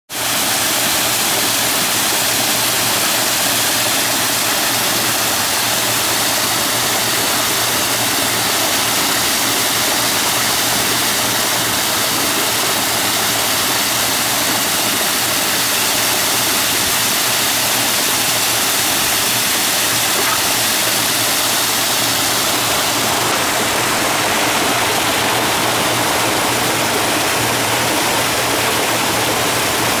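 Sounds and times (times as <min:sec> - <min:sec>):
water rushing off water wheel: 0:00.1 - 0:30.0.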